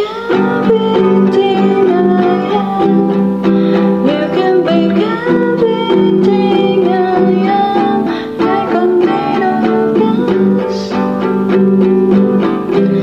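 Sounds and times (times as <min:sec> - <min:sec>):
small nylon guitar chords: 0:00.0 - 0:13.0
woman singing: 0:00.0 - 0:13.0.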